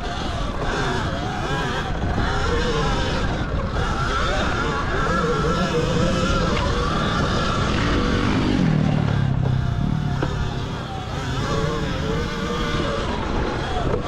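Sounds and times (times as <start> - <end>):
electric motor whine: 0.0 - 14.0
wind and trail rumble: 0.0 - 14.0.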